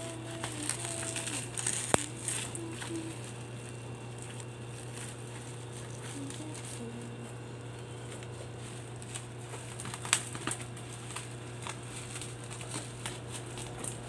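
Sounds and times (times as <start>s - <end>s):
bubble wrap crackling: 0.0s - 14.0s.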